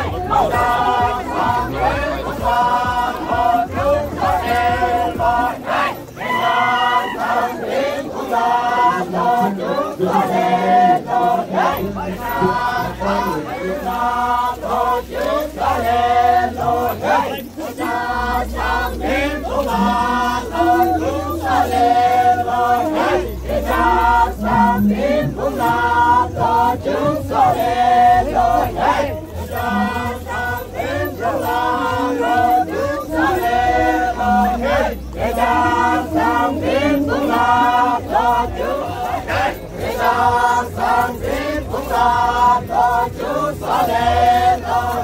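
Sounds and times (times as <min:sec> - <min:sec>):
group chanting in unison: 0:00.0 - 0:45.0.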